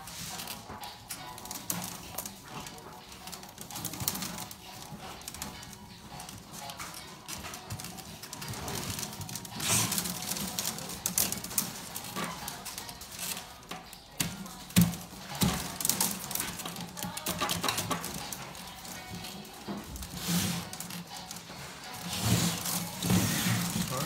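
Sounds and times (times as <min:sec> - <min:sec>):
willow rods and rope rustling: 0:00.0 - 0:24.0.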